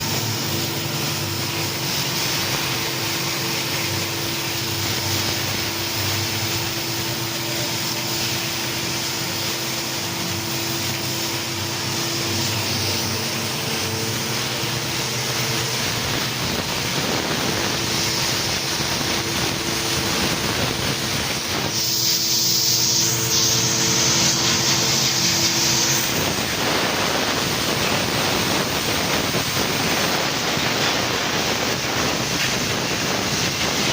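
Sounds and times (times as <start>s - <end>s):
constant hum: 0.0s - 33.9s
laser cutting machine hissing: 0.0s - 33.9s
loud sharp hiss: 0.0s - 33.9s.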